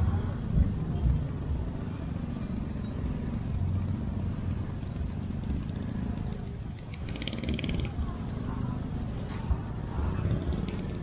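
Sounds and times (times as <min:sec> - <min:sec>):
traffic engines idling: 0:00.0 - 0:11.0.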